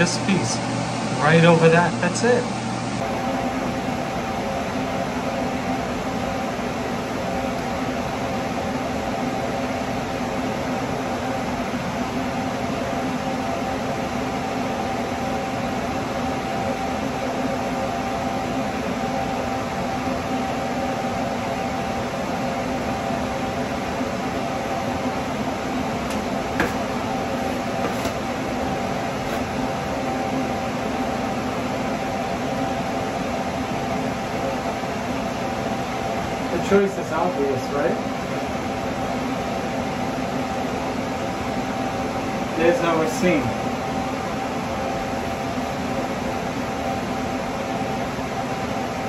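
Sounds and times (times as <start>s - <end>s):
fan humming: 0.0s - 49.0s.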